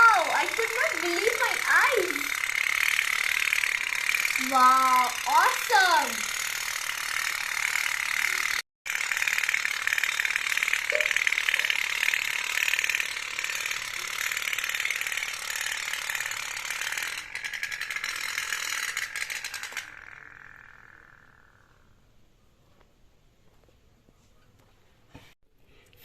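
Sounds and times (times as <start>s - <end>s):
toy steamboat putter: 0.0s - 21.9s.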